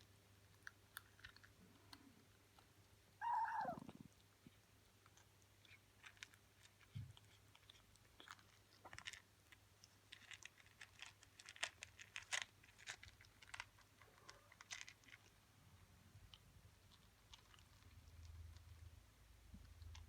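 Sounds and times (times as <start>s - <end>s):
kitten crunching dry kibble: 0.0s - 20.0s.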